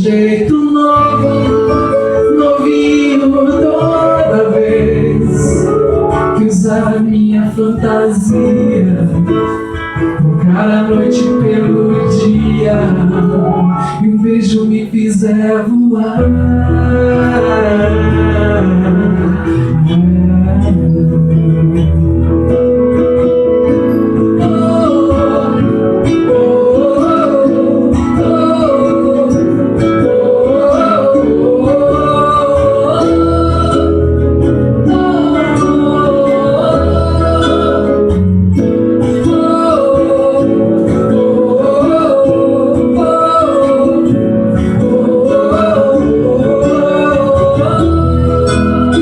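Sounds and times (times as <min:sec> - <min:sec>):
live pop-rock band music: 0:00.0 - 0:49.0.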